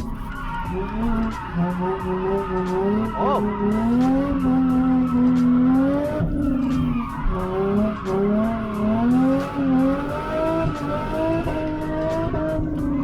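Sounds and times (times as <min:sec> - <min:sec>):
car engine revving: 0:00.0 - 0:13.0
tyres skidding: 0:00.0 - 0:13.0.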